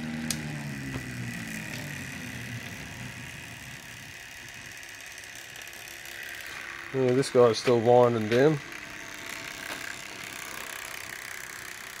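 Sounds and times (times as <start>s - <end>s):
rotor whirring hum: 0.0s - 12.0s.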